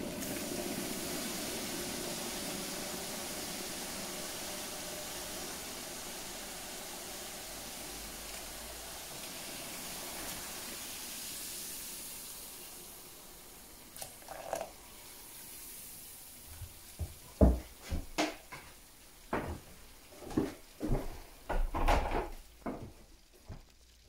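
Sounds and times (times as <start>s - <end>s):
cleaning solution fizzing: 0.0s - 24.0s.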